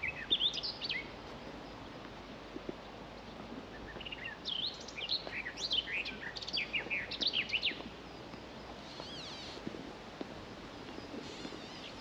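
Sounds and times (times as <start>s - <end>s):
songbird singing: 0.0s - 9.8s, 10.5s - 12.0s
open air hiss: 0.0s - 12.0s.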